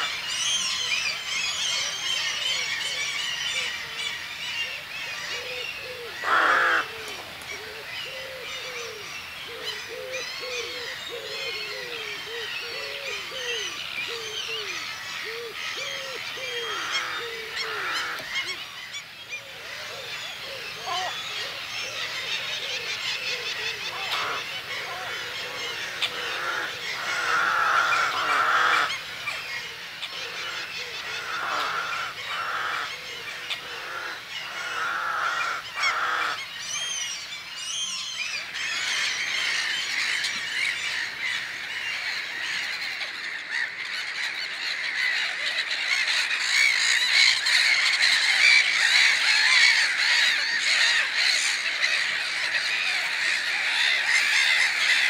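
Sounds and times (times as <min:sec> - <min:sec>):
birds calling: 0:00.0 - 0:55.0.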